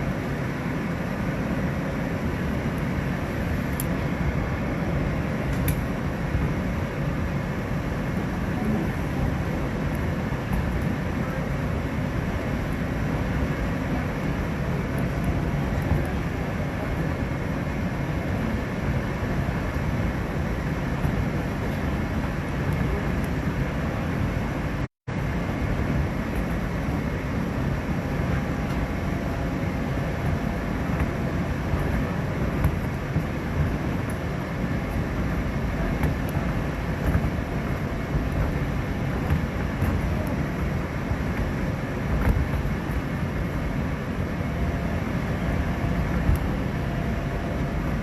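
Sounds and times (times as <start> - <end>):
subway train rumbling on rails: 0.0 - 48.0.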